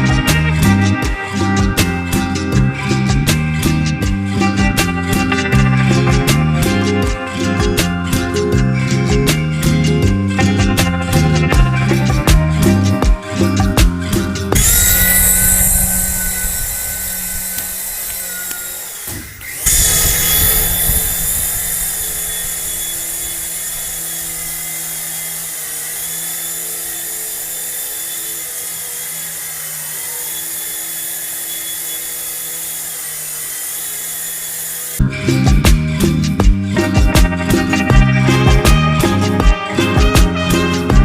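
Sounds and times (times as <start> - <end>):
small electric motor whining: 0.0 - 35.2.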